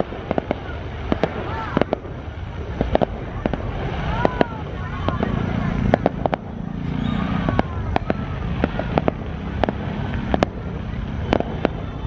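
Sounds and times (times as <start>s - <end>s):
fireworks bangs and cracks: 0.0s - 12.0s
steady low rumble: 0.0s - 12.0s.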